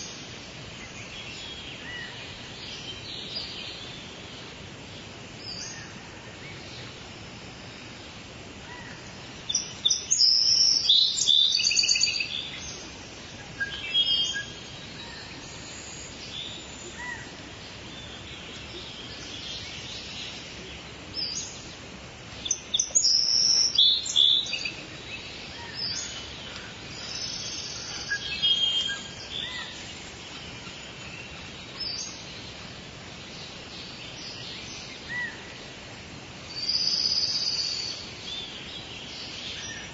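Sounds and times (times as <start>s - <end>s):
soft rain: 0.0s - 39.9s
songbirds chirping and singing: 0.0s - 39.9s.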